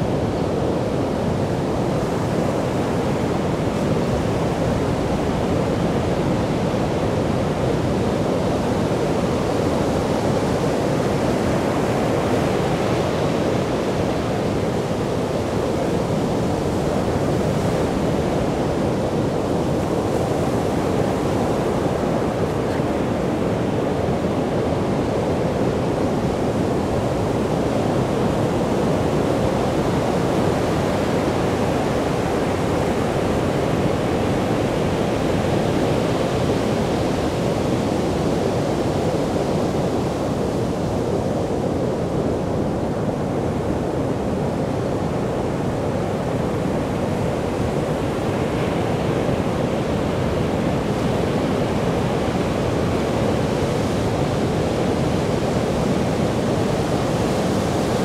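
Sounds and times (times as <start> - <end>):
sea surf breaking on beach: 0.0 - 58.0.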